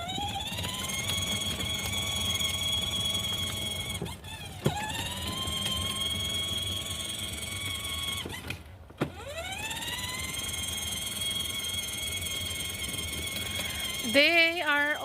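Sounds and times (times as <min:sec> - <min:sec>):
toy car electric motor whining: 0:00.0 - 0:15.0.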